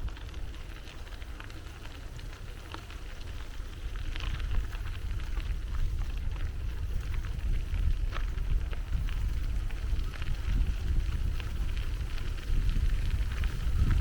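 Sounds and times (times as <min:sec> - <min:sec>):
bike tyres crackling on path: 0:00.0 - 0:14.0
wind buffeting microphone: 0:00.0 - 0:14.0.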